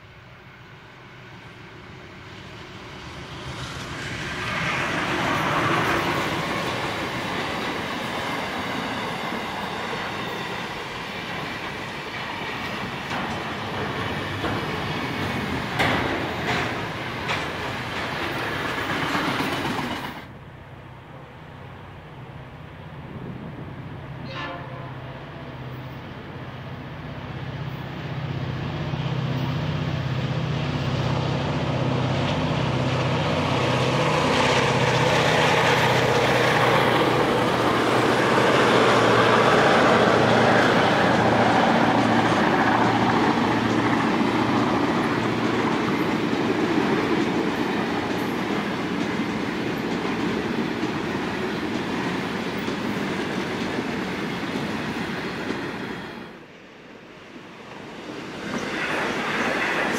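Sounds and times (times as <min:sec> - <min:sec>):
diesel locomotive engine: 0:00.0 - 0:59.9
wagons wheel and rail noise: 0:00.0 - 0:59.9.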